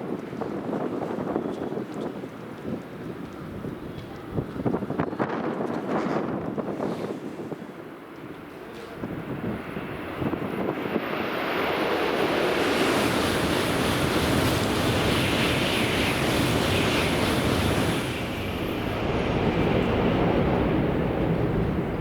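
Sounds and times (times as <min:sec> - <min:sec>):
high-speed train rushing past: 0:04.4 - 0:22.0.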